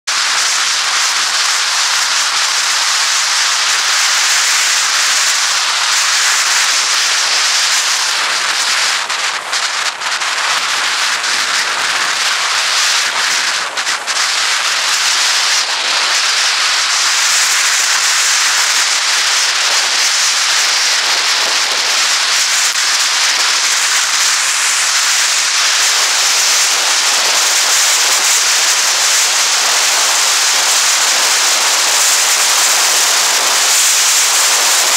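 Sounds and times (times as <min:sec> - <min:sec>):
wind on microphone: 0:00.1 - 0:34.9.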